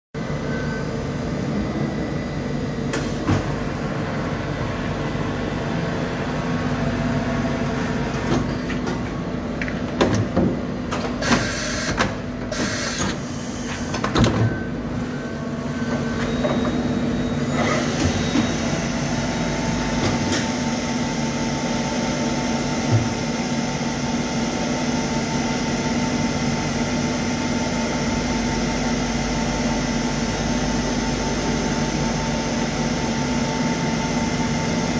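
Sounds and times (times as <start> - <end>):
workshop machinery humming: 0.2 - 34.9.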